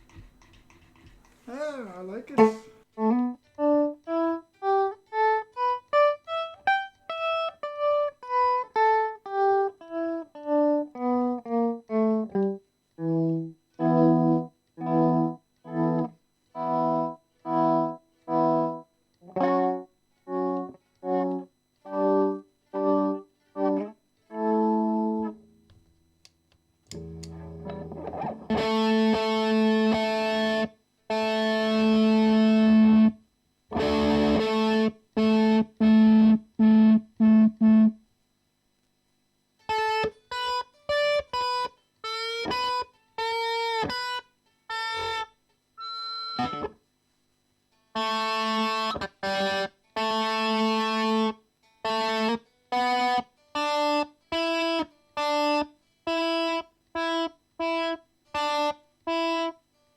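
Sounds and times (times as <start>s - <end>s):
distorted electric guitar: 0.0s - 25.9s, 26.9s - 38.1s, 39.6s - 46.8s, 47.8s - 59.7s.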